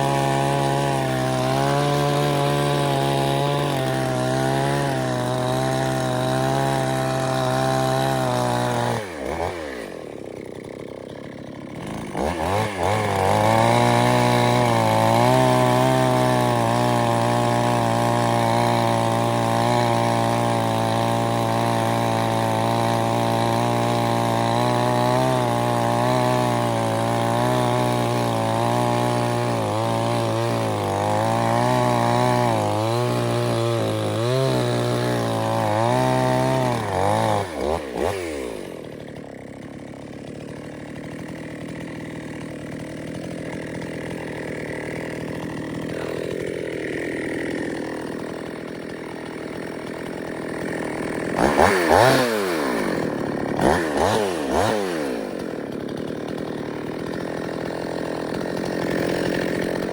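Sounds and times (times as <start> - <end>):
chainsaw revving and cutting: 0.0 - 59.9.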